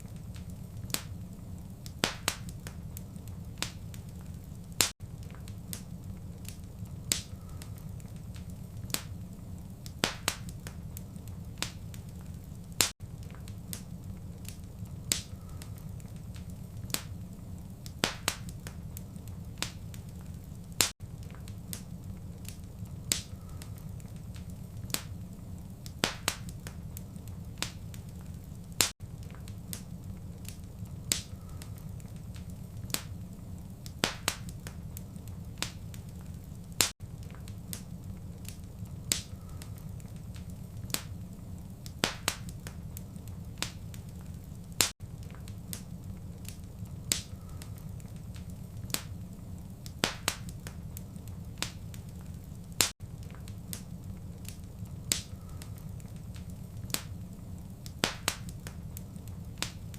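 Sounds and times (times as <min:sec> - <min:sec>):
fireplace fire crackling and popping: 0:00.0 - 0:59.9.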